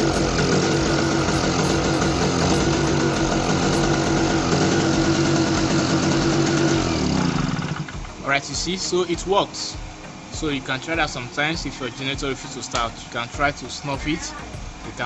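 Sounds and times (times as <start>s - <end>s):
petrol generator engine running: 0.0s - 15.0s.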